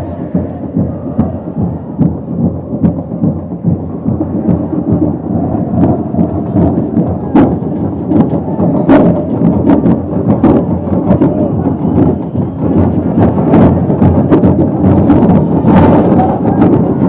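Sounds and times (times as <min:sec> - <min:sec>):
stadium crowd roaring: 0:00.0 - 0:17.0.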